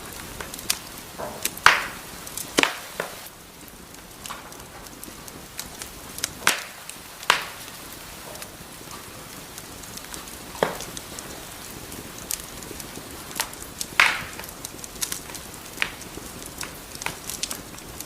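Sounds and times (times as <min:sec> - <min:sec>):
fire pops and snaps: 0:00.0 - 0:18.0
fire soft hiss: 0:00.0 - 0:18.0.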